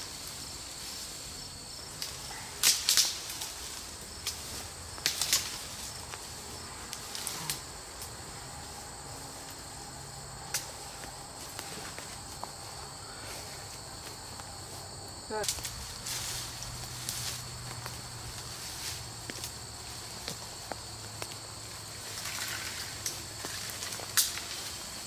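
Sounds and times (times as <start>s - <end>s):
brush crackling and rustling: 0.0s - 25.0s
insects trilling: 0.0s - 25.0s.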